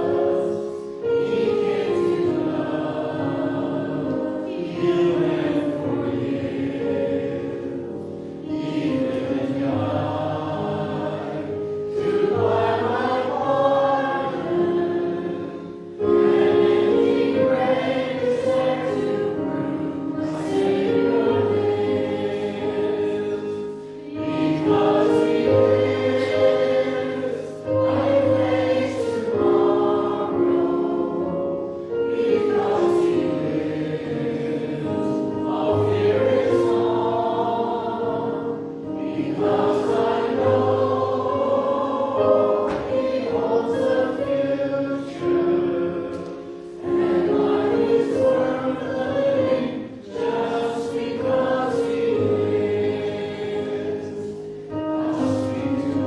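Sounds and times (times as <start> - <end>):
choir breaths: 0.0 - 56.0
choir singing a slow hymn: 0.0 - 56.0.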